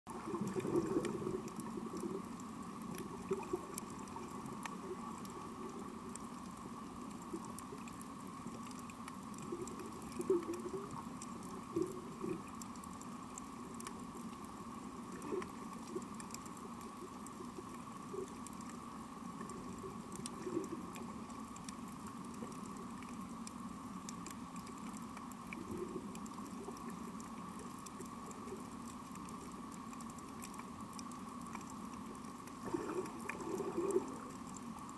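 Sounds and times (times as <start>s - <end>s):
steady underwater hum: 0.1s - 34.9s.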